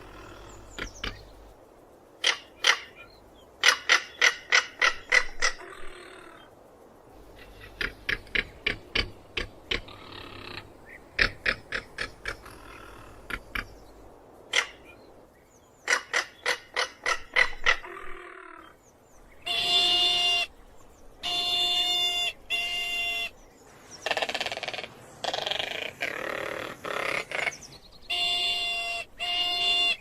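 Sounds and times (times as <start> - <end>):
bird calls: 0.0 - 1.6, 7.2 - 30.0.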